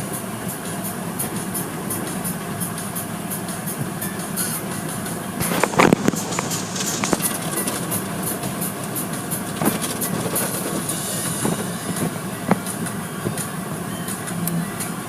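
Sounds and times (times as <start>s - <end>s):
car wash rushing and rattling: 0.0s - 15.0s.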